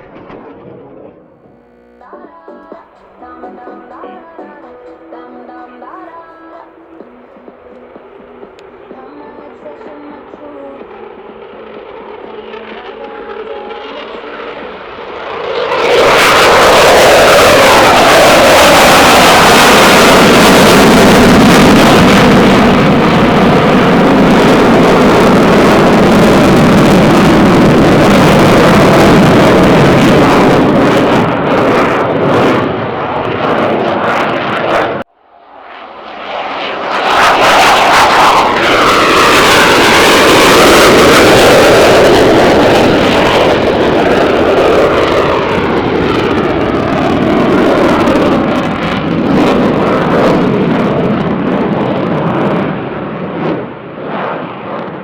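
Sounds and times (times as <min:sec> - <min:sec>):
jet passing with pitch sweep: 0:00.0 - 0:54.9
loud jet engines climbing: 0:00.0 - 0:55.0.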